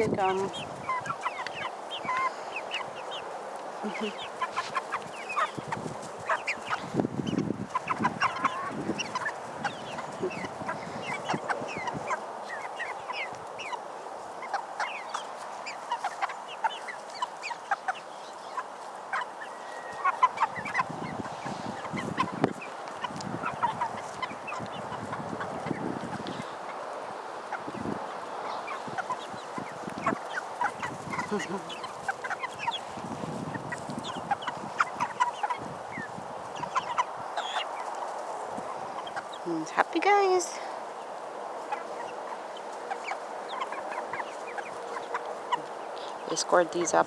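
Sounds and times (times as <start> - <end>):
chickens clucking and peeping: 0.0 - 47.0.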